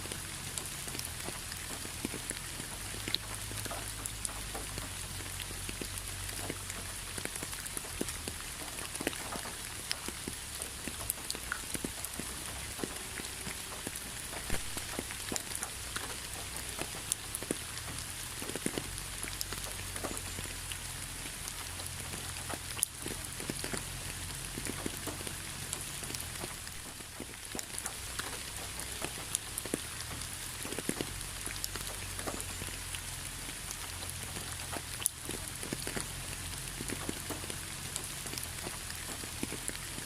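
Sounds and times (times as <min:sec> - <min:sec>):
steady rain pattering: 0:00.0 - 0:40.0.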